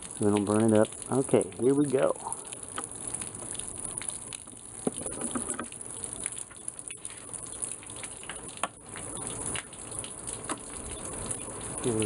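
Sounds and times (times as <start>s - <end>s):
hose water splashing: 0.0s - 12.0s.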